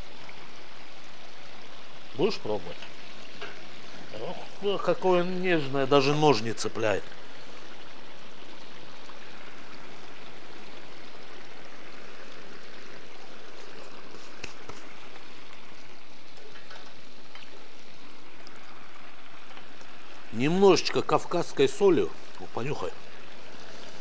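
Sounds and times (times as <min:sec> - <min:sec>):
tripe sizzling in fat: 0:00.0 - 0:24.0.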